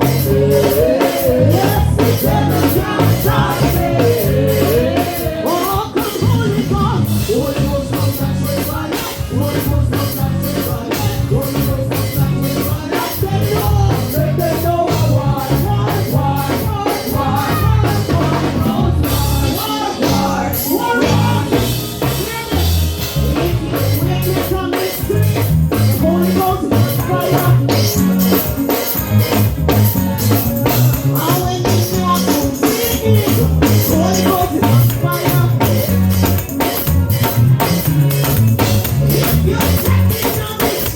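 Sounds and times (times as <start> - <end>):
bass: 0.0 - 40.9
drum kit beat: 0.0 - 40.9.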